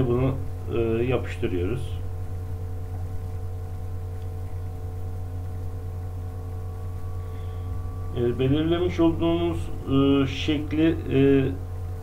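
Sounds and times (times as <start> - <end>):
faint steady tones: 0.0 - 12.0
steady low hum: 0.0 - 12.0.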